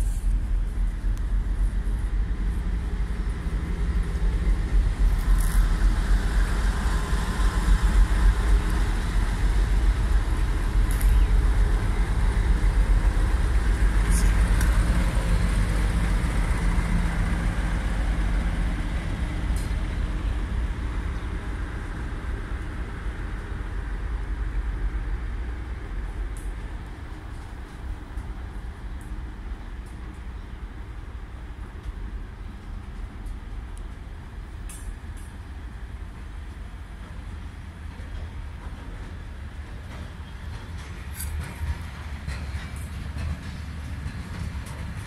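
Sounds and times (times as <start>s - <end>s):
train passing with rumble: 0.0s - 45.0s.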